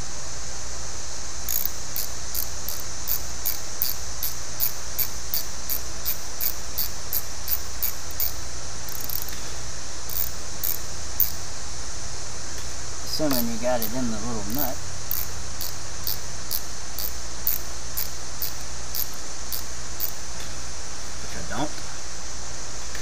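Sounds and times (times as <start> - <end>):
high-pitched insect chorus: 0.0 - 23.0
regular insect chirp: 0.8 - 23.0.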